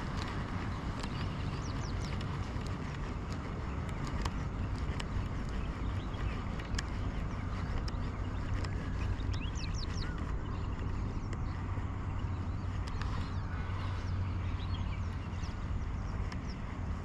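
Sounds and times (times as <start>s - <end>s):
low rumble: 0.0s - 17.0s
small birds chirping: 0.0s - 17.0s.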